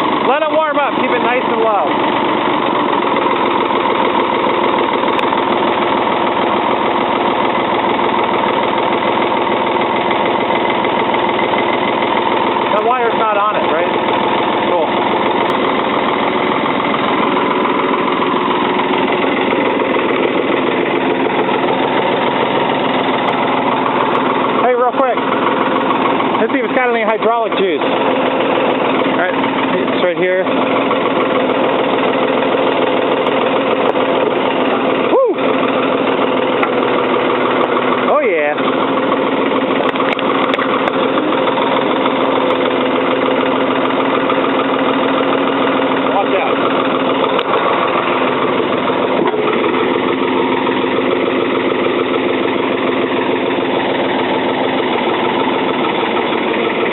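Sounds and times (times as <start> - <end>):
diesel engine idling: 0.0 - 56.9.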